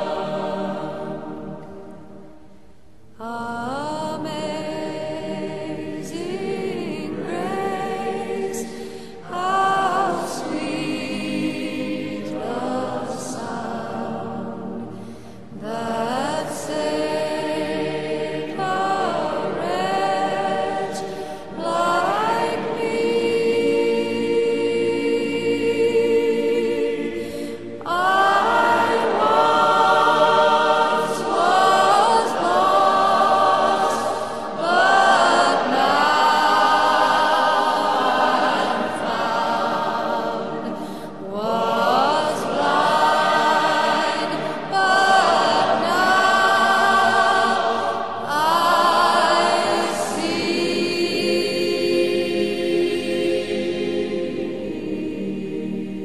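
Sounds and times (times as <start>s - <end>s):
choir singing slow piece: 0.0s - 56.0s.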